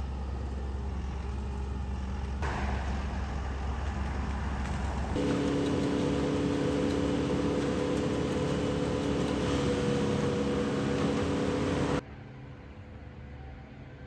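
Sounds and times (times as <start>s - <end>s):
engine running steadily: 0.0s - 13.9s.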